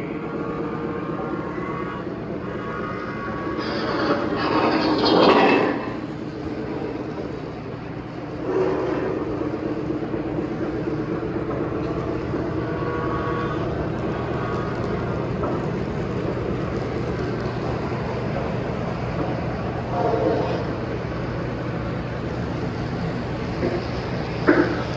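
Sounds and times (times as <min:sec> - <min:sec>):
model trains rumbling on track: 0:00.1 - 0:24.9.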